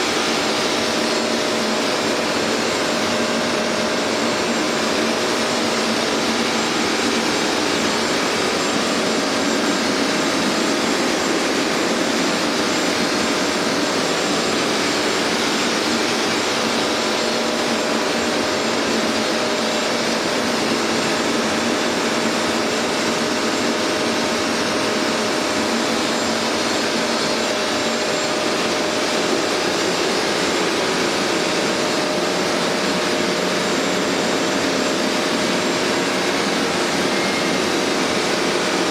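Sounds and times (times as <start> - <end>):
carpet cleaner suction motor: 0.0 - 38.9.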